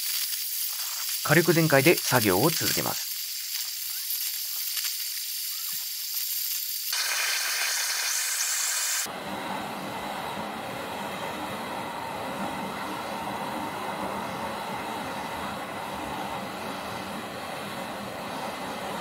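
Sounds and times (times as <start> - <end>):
gas torch hissing: 0.0 - 19.0.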